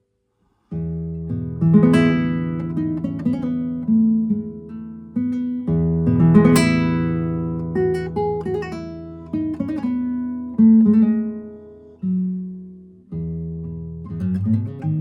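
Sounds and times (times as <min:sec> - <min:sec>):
solo guitar plucking: 0:00.7 - 0:15.0.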